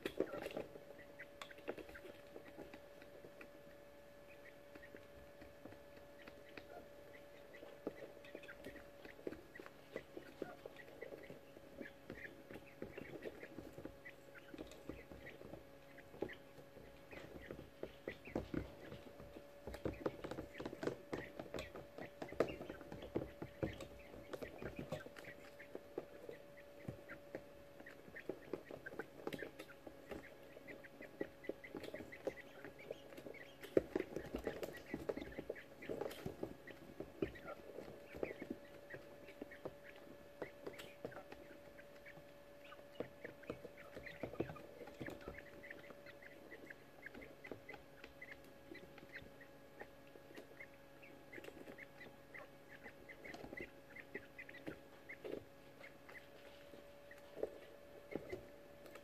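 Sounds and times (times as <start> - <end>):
chicks rustling in wood shavings: 0.0 - 59.0
faint steady hum: 0.0 - 59.0
quail chicks chirping: 0.0 - 59.0.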